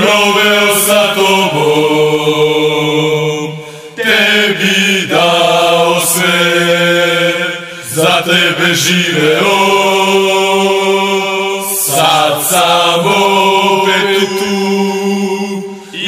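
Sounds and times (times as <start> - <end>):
group of voices chanting: 0.0 - 16.0.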